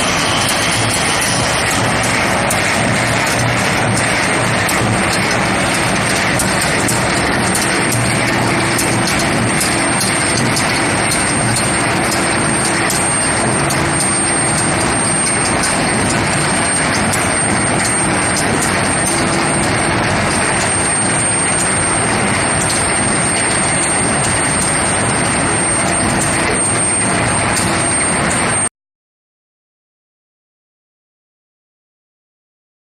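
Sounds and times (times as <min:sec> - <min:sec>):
high-pitched whine: 0:00.0 - 0:28.7
loud machine noise: 0:00.0 - 0:28.7.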